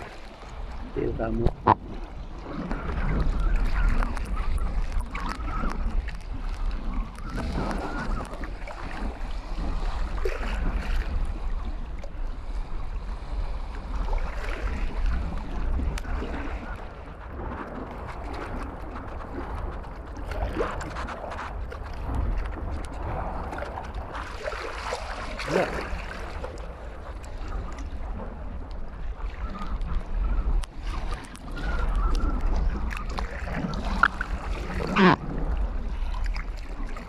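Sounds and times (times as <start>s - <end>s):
water lapping and sloshing: 0.0s - 37.0s
wind buffeting microphone: 0.0s - 37.0s.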